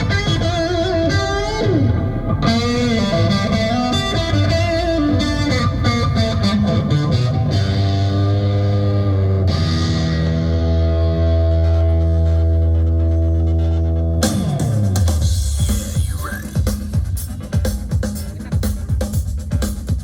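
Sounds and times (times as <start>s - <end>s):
sustained chords: 0.0s - 17.6s
electric guitar melody: 0.0s - 18.4s
bass: 0.0s - 20.0s.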